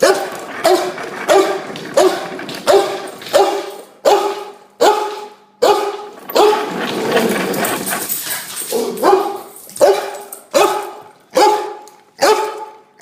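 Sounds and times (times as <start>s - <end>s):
dog barking: 0.0s - 6.7s, 8.8s - 12.8s.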